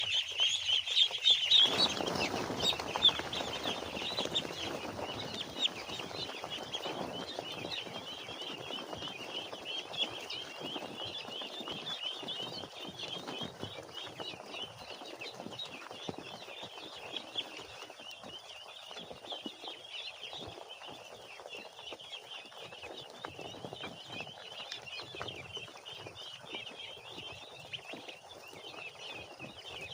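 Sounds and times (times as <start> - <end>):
chicks peeping: 0.0 - 29.9.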